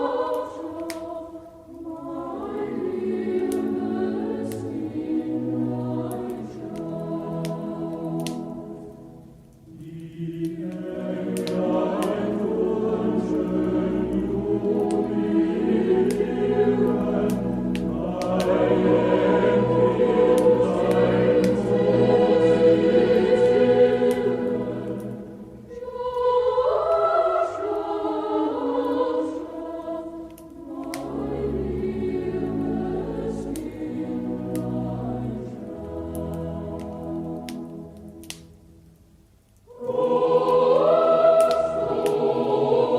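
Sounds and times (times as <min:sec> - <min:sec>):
choir singing a carol: 0:00.0 - 0:38.5, 0:39.6 - 0:42.9
wood fire crackling: 0:00.0 - 0:42.9.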